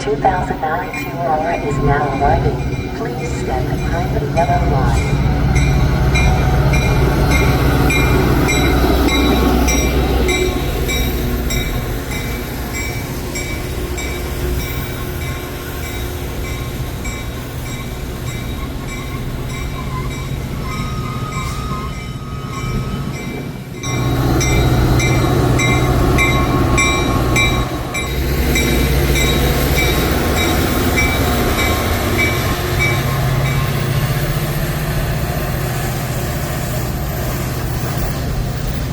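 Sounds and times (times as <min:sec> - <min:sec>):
diesel locomotive engine droning: 0:00.0 - 0:38.9
train bell ringing: 0:00.0 - 0:38.9.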